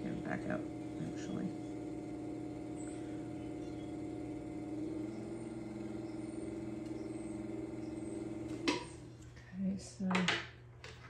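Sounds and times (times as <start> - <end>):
potter's wheel motor humming: 0.0 - 9.2.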